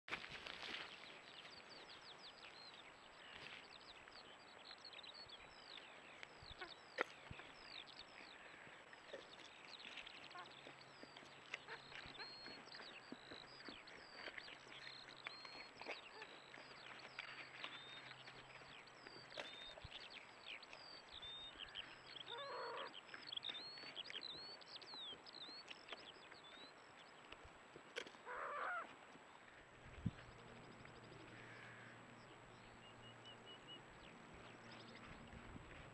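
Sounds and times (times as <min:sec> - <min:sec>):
birds chirping: 0:00.5 - 0:35.9.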